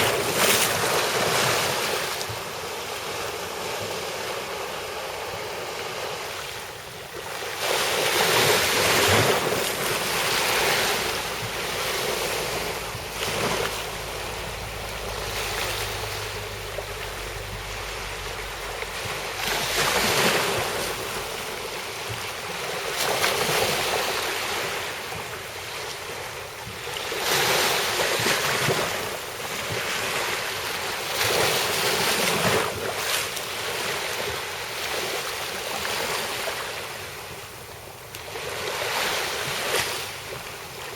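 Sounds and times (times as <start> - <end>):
sea waves washing ashore: 0.0 - 40.9.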